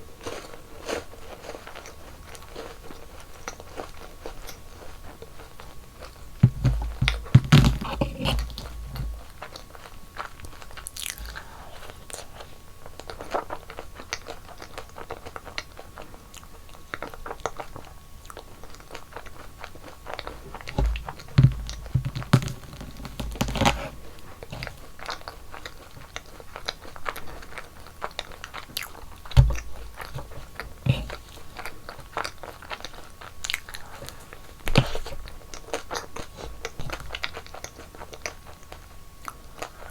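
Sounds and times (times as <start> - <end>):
crunchy chewing of sweets: 0.0 - 39.9.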